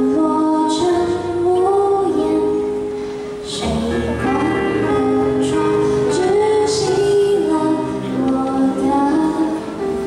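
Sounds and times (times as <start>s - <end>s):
musical accompaniment: 0.0s - 10.0s
woman singing pop ballad: 0.0s - 10.0s.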